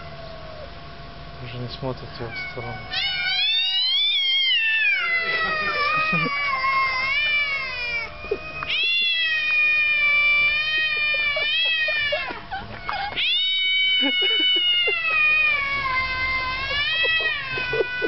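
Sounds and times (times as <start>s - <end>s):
cats yowling: 0.0s - 1.0s, 2.0s - 18.0s.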